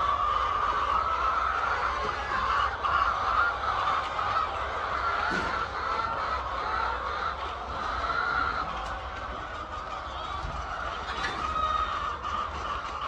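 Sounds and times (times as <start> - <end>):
chickens clucking and squawking: 0.0 - 13.0.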